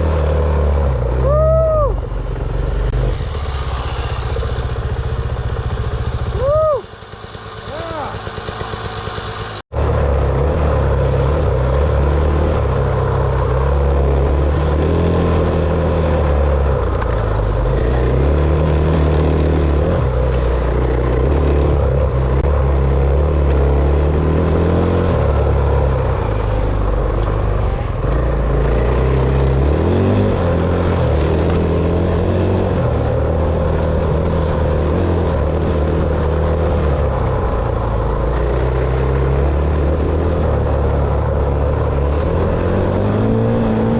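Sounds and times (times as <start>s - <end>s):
dirt bike engine revving: 2.7s - 26.8s, 27.4s - 43.9s.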